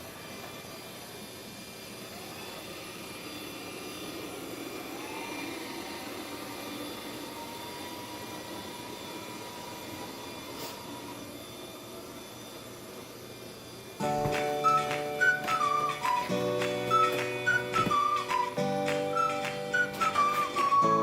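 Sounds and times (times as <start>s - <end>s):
robot vacuum whirring: 1.3s - 21.0s.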